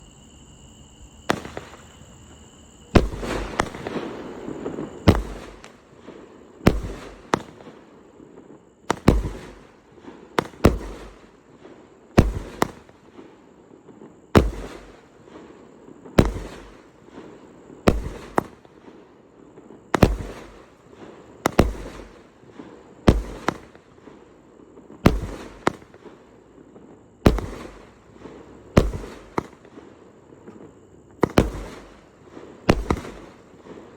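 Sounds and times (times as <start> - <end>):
firework bangs: 1.2 - 33.9.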